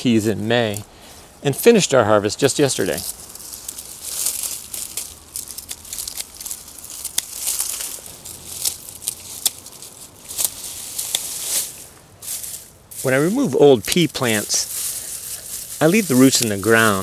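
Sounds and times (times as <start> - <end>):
vines rustling and crackling: 0.1 - 17.0.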